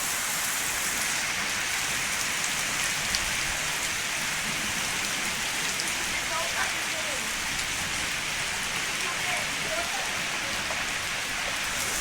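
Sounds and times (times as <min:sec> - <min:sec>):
heavy rain pouring: 0:00.0 - 0:12.0
raindrops ticking on surfaces: 0:00.0 - 0:12.0.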